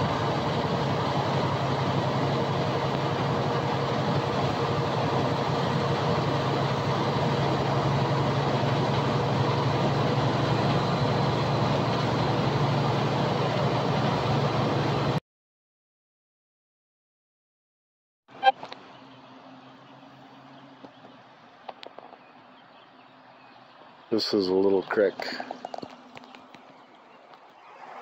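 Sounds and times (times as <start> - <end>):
road noise: 0.0 - 15.2, 18.3 - 28.0
truck engine drone: 0.0 - 15.2, 18.3 - 28.0.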